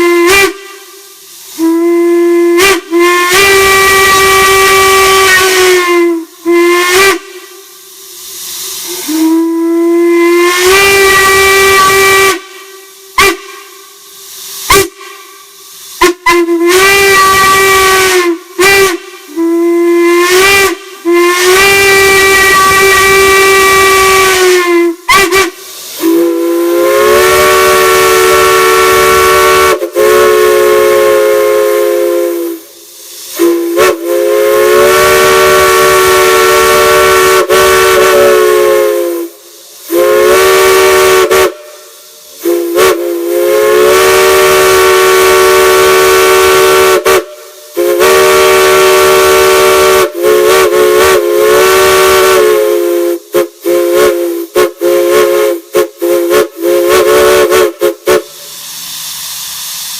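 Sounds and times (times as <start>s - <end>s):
hiss of steam: 0.0s - 59.9s
steam whistle blasts: 0.0s - 59.9s.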